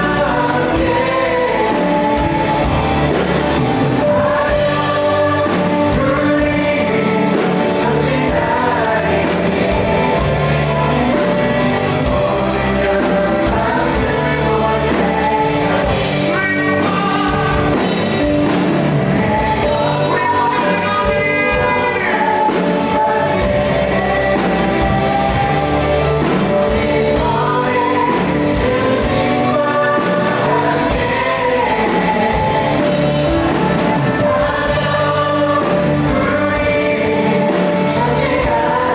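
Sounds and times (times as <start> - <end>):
vocalists singing: 0.0 - 38.9
worship band playing: 0.0 - 38.9.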